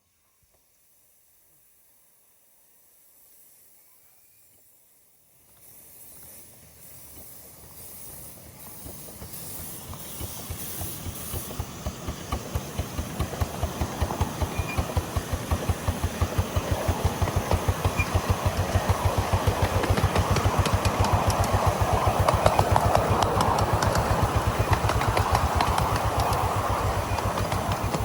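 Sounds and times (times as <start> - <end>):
miniature steam locomotive approaching: 0.0 - 28.0.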